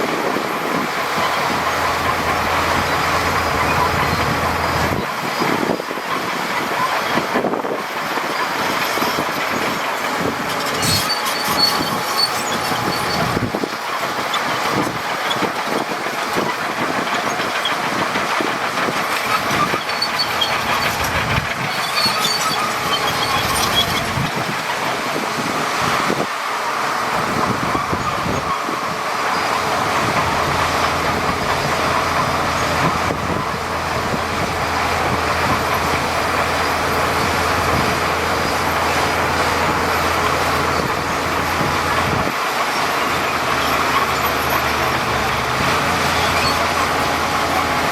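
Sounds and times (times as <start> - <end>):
bulldozer engine running: 0.0 - 47.9
steel tracks clanking and squealing: 0.0 - 47.9.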